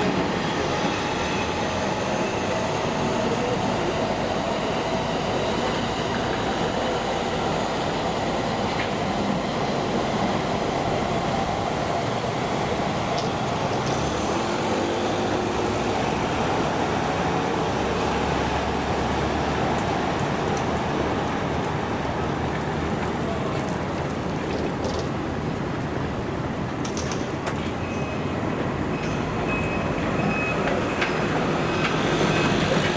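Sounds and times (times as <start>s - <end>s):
train running: 0.0s - 32.9s.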